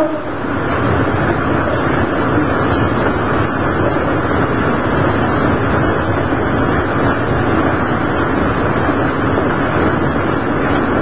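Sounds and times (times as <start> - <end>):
railcar engine drone: 0.0 - 11.0
train wheels on rails: 0.0 - 11.0.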